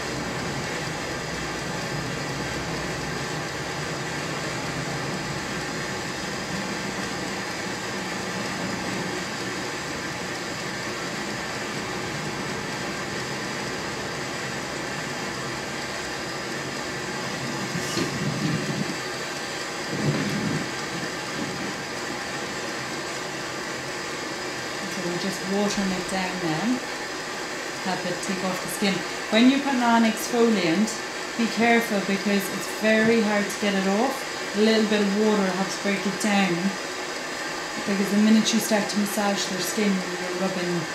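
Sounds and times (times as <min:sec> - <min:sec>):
appliance hissing: 0:00.0 - 0:40.9.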